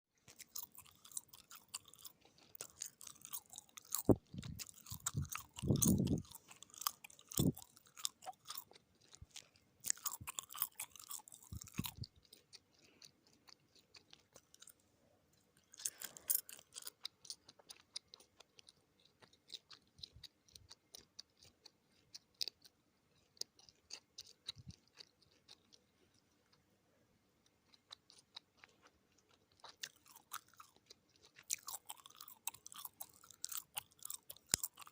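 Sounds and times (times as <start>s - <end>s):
gum chewing mouth sounds: 0.2s - 26.7s, 27.4s - 34.9s.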